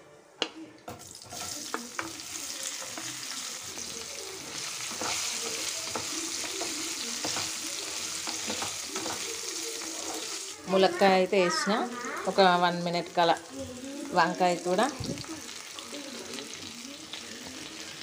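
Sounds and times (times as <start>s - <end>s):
food sizzling in hot oil: 0.9s - 18.0s.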